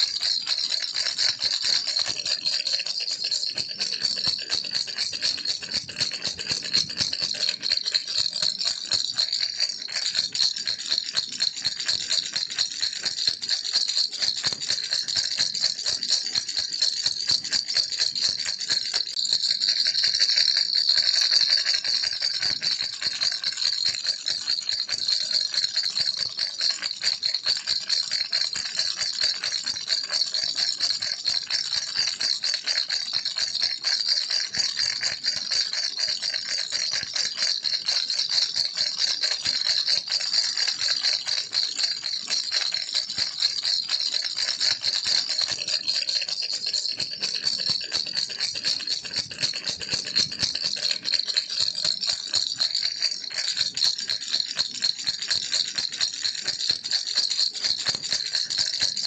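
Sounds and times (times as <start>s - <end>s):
baby rattle shaking: 0.0s - 54.4s.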